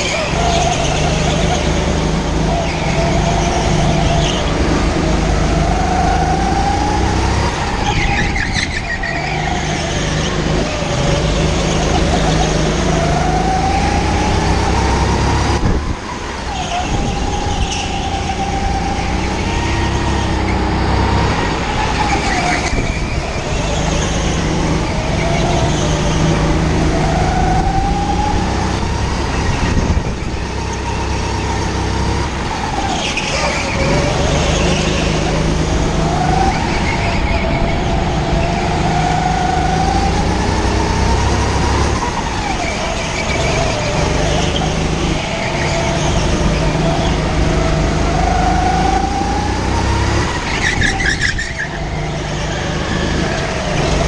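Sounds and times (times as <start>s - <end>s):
go-kart engine running hard: 0.0s - 54.0s
road noise rumble: 0.0s - 54.0s.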